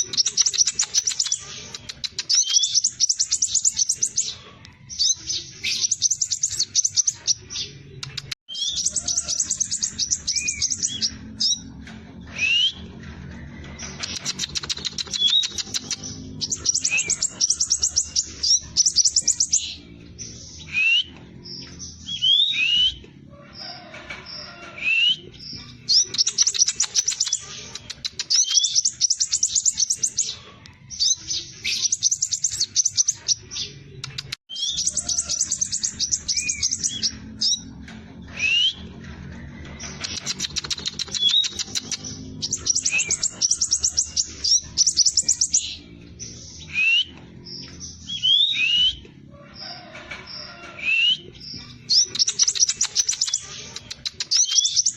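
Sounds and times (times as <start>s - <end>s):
bird trilling and whistling: 0.0s - 13.0s, 13.7s - 23.0s, 24.3s - 37.7s, 38.3s - 39.0s, 39.8s - 54.9s.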